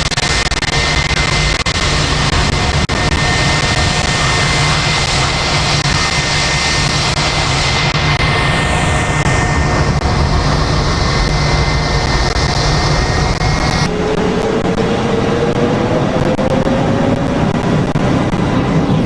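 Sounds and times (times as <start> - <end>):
jet engine roar with high whine: 0.0 - 19.0.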